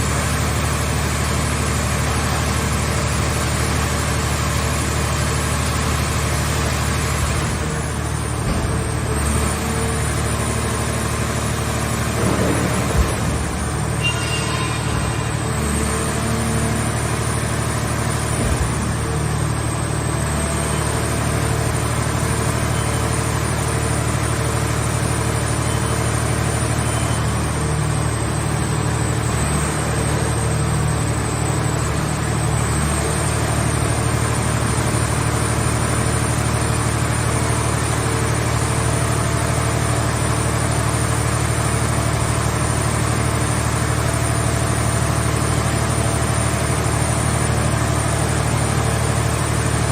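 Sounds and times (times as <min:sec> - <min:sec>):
power unit engine humming and whining: 0:00.0 - 0:49.9.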